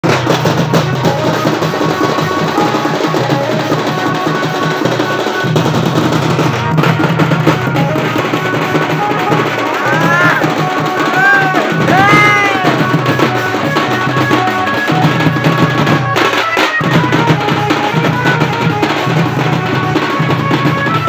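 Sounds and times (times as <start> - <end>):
fast dense drumming: 0.0 - 21.0
high held note melody: 0.9 - 21.0.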